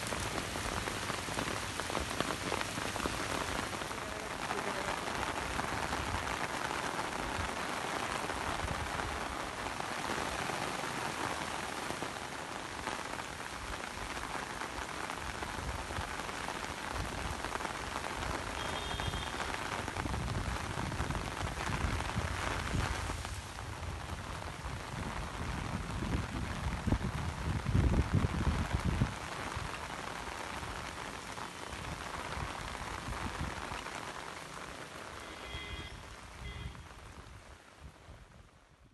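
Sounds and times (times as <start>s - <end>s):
heavy rain on wet road: 0.0s - 38.9s.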